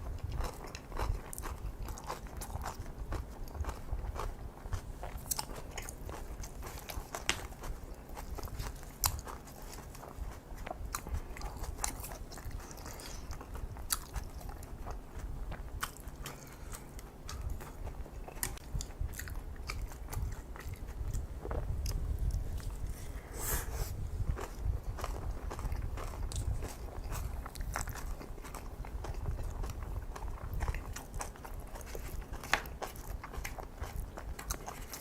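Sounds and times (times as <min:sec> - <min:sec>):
close chewing with wet mouth sounds: 0:00.0 - 0:23.0, 0:24.0 - 0:35.0.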